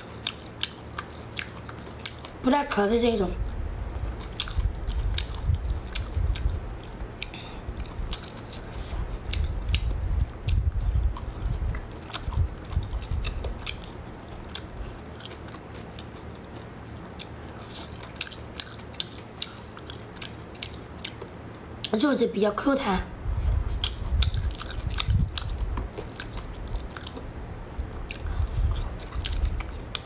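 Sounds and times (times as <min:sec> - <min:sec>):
person chewing food: 0:00.0 - 0:02.4, 0:03.4 - 0:21.3, 0:23.3 - 0:27.3, 0:28.0 - 0:30.0.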